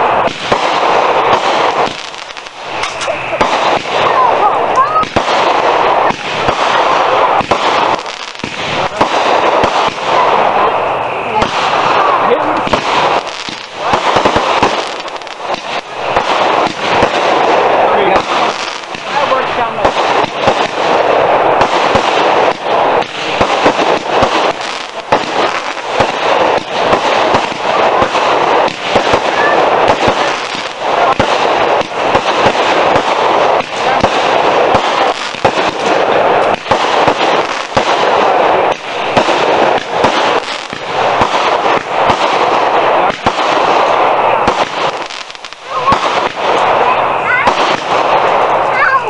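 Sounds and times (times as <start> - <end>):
firework pops and bangs: 0.0 - 49.0.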